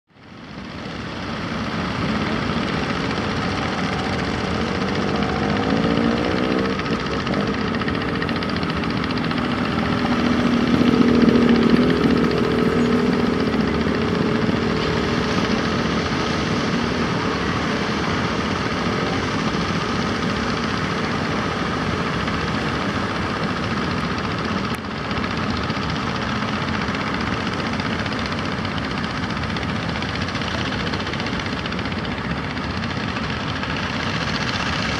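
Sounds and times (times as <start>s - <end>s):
boat engines droning: 0.1s - 34.9s.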